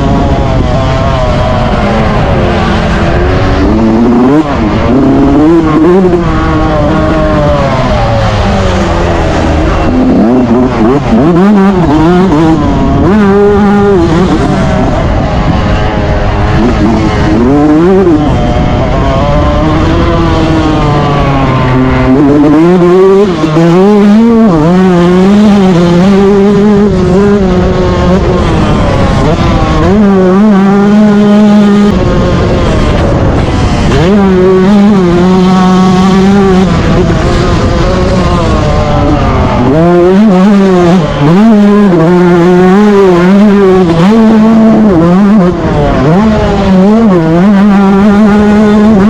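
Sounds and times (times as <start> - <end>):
motocross engine revving: 0.0 - 49.0.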